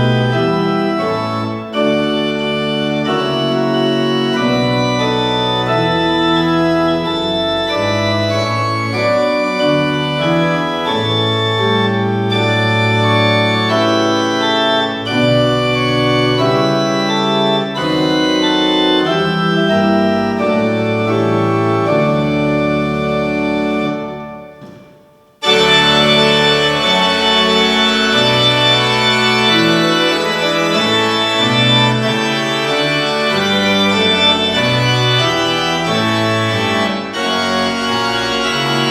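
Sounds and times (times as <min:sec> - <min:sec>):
organ playing slow chords: 0:00.0 - 0:24.8, 0:25.4 - 0:38.9
bright organ passage: 0:00.0 - 0:38.9.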